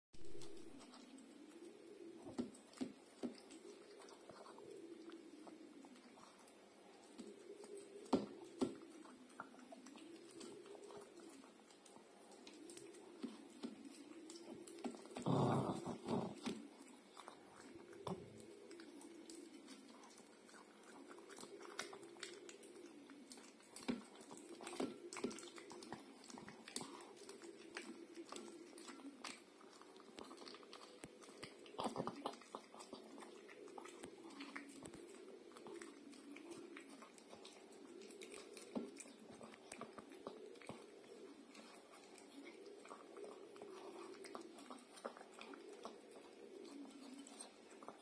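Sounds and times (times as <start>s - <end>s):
dog chewing and licking: 0.2s - 48.0s.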